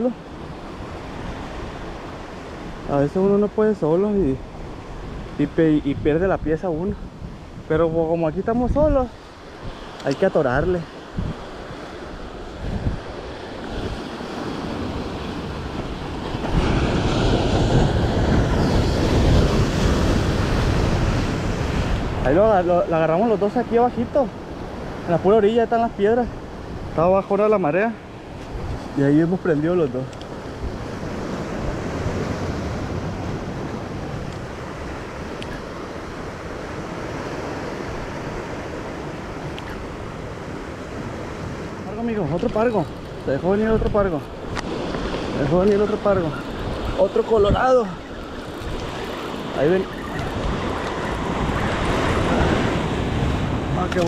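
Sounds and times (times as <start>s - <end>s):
sea waves breaking on shore: 0.0s - 54.0s
surf washing against rocks: 0.0s - 54.0s
wind buffeting microphone: 4.1s - 54.0s.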